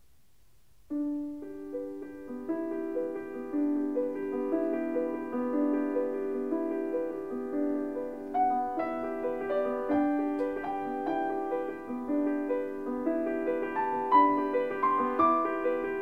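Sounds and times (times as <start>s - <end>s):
piano music: 0.9s - 16.0s.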